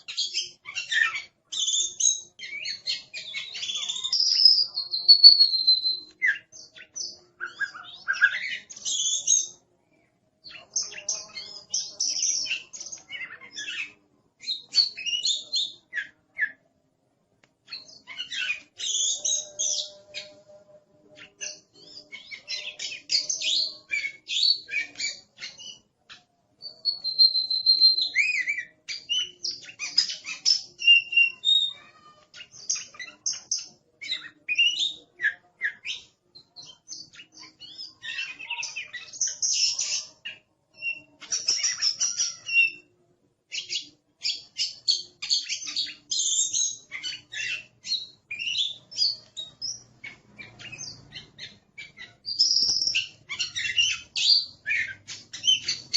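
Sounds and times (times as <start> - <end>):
songbird singing varied song: 0.0 - 9.6, 17.7 - 42.9, 43.5 - 55.9.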